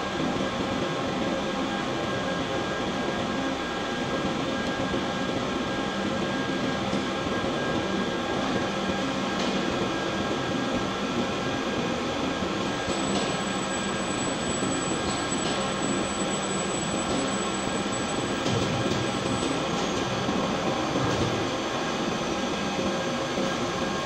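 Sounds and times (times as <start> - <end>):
steady machine whining tones: 0.0 - 24.0.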